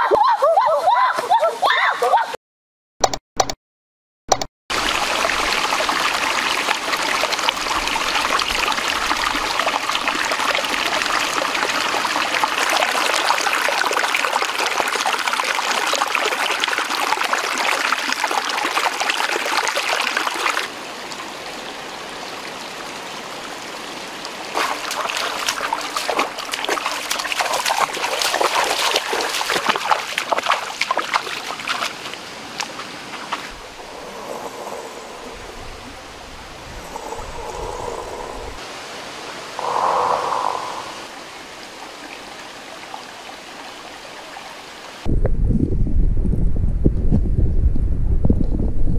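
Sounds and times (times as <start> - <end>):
stream rushing over stones: 4.7 - 45.1
water splashing and trickling: 4.7 - 45.1.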